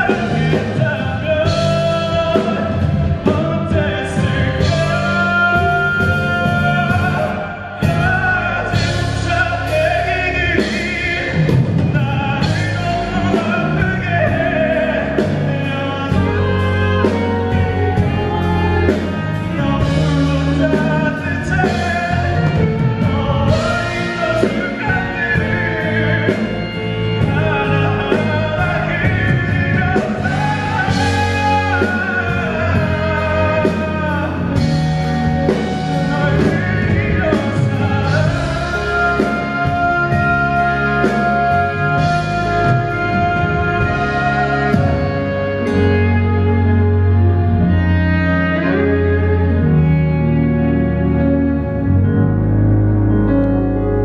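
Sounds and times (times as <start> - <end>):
man singing: 0.0 - 52.1
instrumental accompaniment: 0.0 - 54.0.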